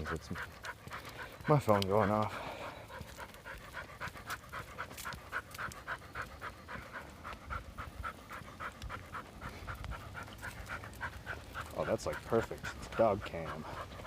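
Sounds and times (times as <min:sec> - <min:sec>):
dog panting fast: 0:00.0 - 0:14.0.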